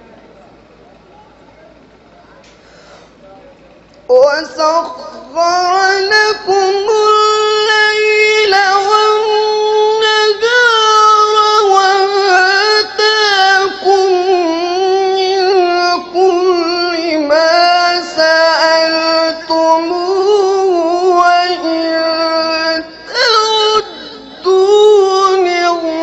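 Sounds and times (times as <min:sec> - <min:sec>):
man reciting melodically: 0:04.1 - 0:26.0.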